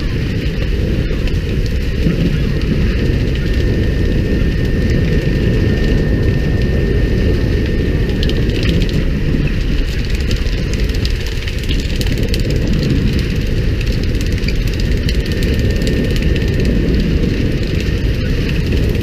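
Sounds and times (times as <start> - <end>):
boat engine drone: 0.0 - 19.0
water spraying and splashing: 0.0 - 19.0.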